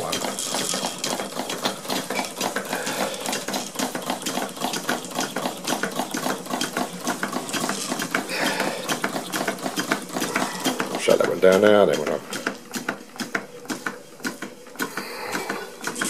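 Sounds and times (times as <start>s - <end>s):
steam engine exhaust puffs: 1.3s - 11.2s, 12.3s - 16.0s.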